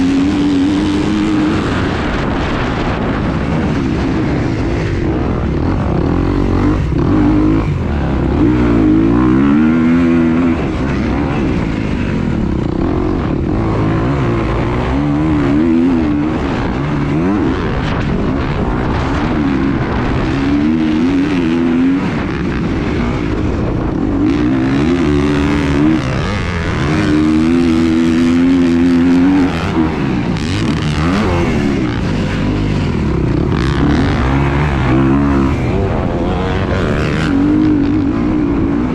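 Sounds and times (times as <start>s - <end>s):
engine revving up and down: 0.0s - 38.9s
low rumbling noise: 0.0s - 38.9s.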